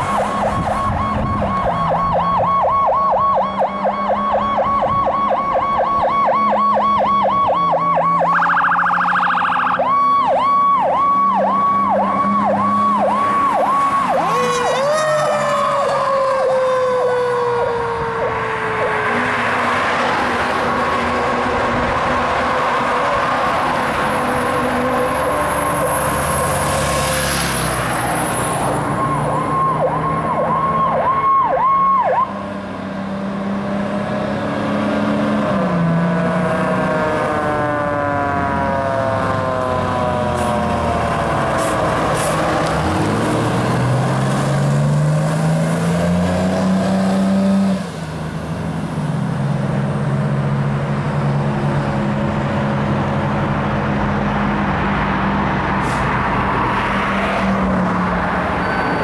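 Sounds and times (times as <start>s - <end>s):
diesel engine: 0.0s - 59.0s
fire engine siren: 0.0s - 59.0s.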